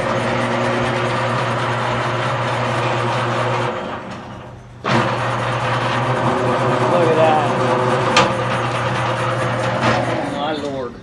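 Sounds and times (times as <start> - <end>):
cable rasping through blade: 0.0 - 10.7
wire stripper motor hum: 0.0 - 11.0.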